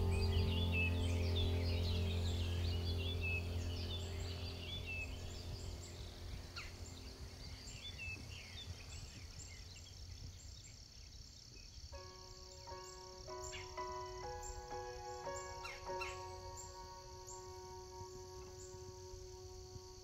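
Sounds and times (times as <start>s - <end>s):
piano-like music: 0.0s - 8.3s, 12.0s - 20.0s
low music drone: 0.0s - 8.7s, 12.0s - 20.0s
faint insect drone: 0.0s - 20.0s
small birds chirping: 0.0s - 20.0s.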